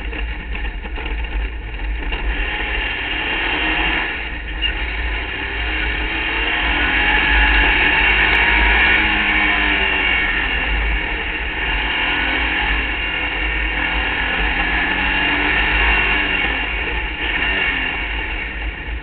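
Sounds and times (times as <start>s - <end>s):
race buggy engine running hard: 0.0s - 19.0s.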